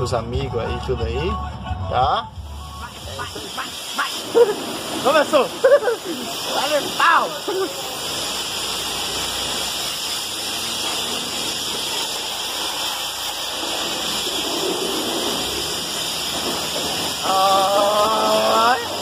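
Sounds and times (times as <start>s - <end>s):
pressure washer spraying: 2.4s - 19.0s.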